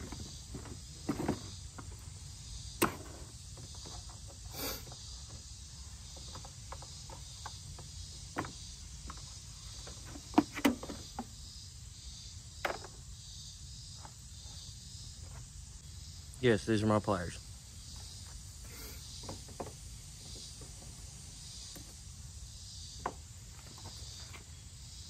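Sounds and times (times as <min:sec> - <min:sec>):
high insect chirring: 0:00.0 - 0:25.0.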